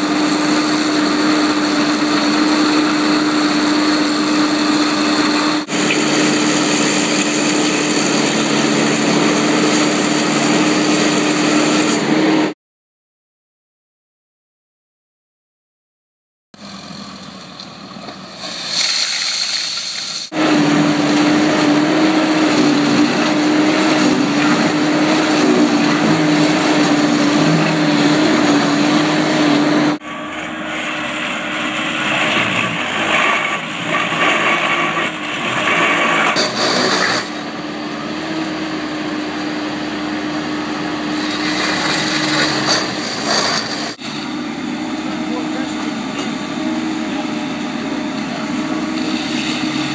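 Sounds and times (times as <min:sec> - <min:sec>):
backhoe engine humming: 0:00.0 - 0:12.6, 0:16.6 - 0:49.9.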